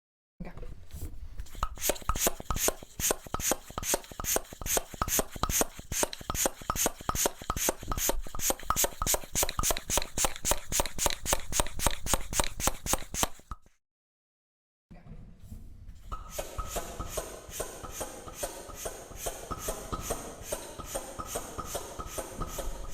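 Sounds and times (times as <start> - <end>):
bicycle pump strokes with air hiss: 1.4 - 13.6, 16.1 - 22.9.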